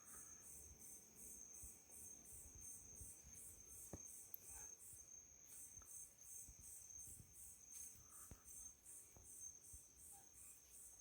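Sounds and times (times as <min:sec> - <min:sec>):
pulsing cricket chirp: 0:00.0 - 0:11.0.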